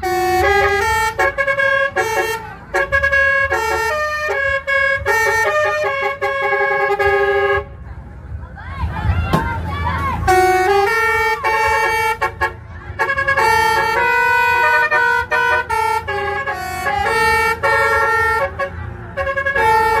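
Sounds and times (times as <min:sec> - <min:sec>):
musical vehicle horn tune: 0:00.0 - 0:07.9, 0:10.2 - 0:20.0.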